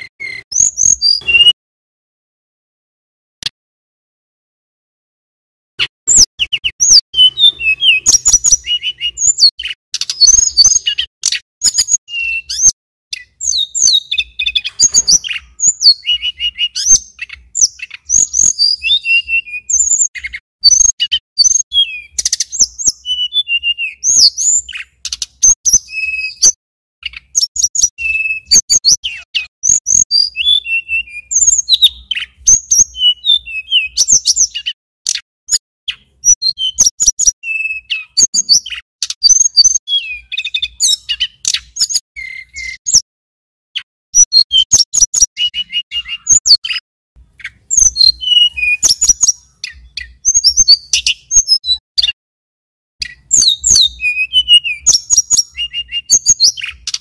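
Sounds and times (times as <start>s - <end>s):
songbird singing: 0.0s - 1.6s, 6.1s - 43.0s, 43.8s - 52.2s, 53.0s - 57.0s.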